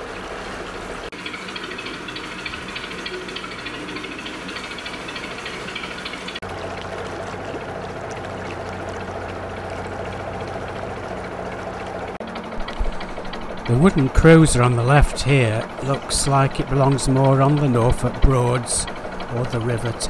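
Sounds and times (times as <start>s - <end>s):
boat diesel engine running: 0.0s - 20.0s
water churning and splashing: 0.0s - 20.0s.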